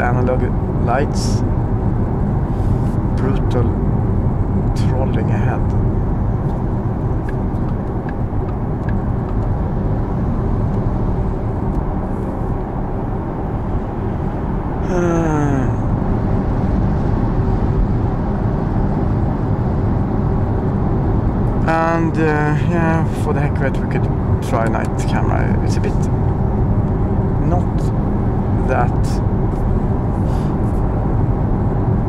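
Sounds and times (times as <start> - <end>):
road and tyre noise in car: 0.0 - 32.0.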